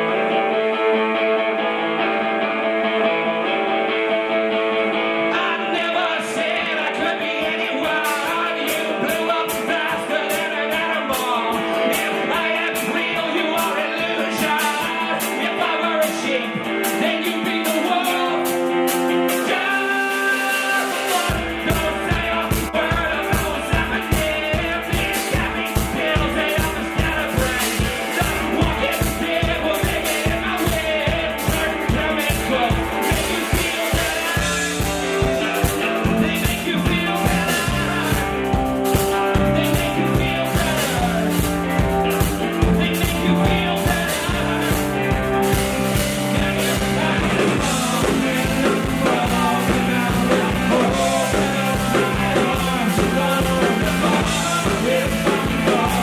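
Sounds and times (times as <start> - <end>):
live rock band playing: 0.0 - 56.0
fast drum beat: 7.7 - 56.0.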